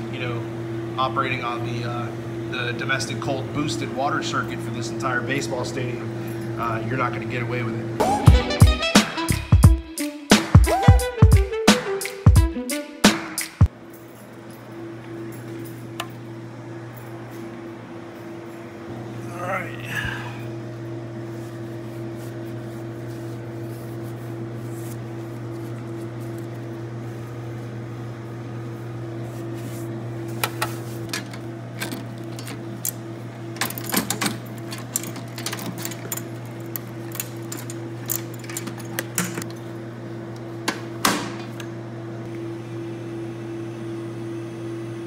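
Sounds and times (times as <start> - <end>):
low hum of running equipment: 0.0 - 8.8, 13.6 - 45.0.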